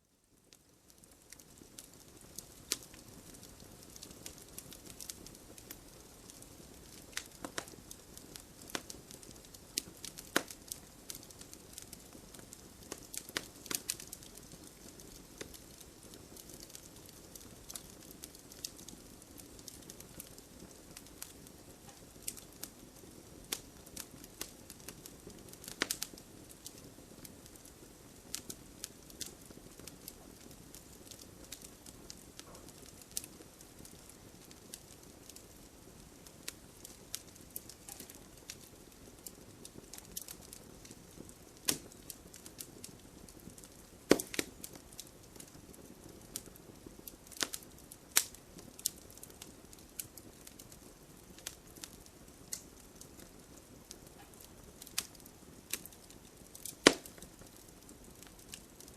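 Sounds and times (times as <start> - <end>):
burning wood crackling and popping: 0.2 - 58.9
campfire flame rushing: 1.0 - 58.9.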